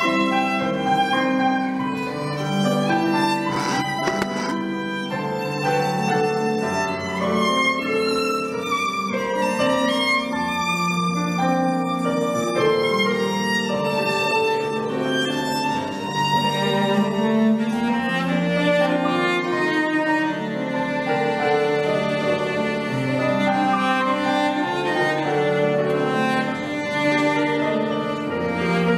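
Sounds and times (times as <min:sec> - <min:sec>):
violin melody: 0:00.0 - 0:28.9.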